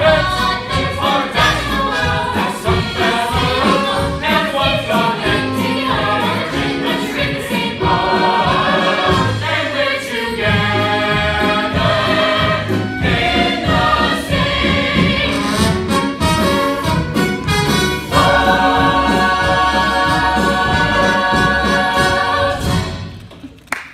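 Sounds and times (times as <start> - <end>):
ensemble singing show tune: 0.0 - 16.2, 17.9 - 23.1
instrumental accompaniment: 0.0 - 23.3.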